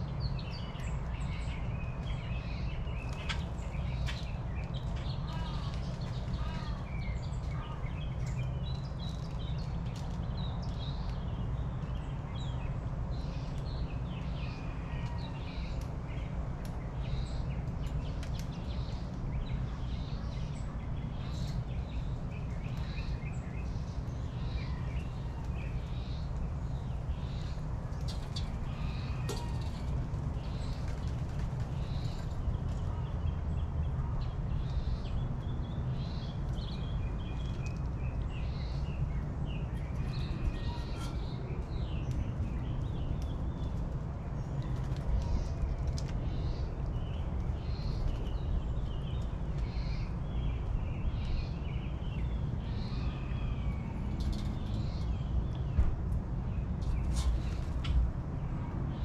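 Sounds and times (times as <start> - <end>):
wild birds chirping: 0.0 - 55.8, 56.4 - 59.0.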